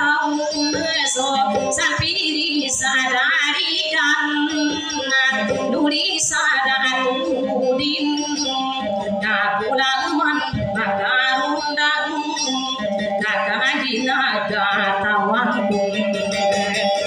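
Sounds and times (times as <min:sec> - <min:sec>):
woman singing with vibrato: 0:00.0 - 0:17.0.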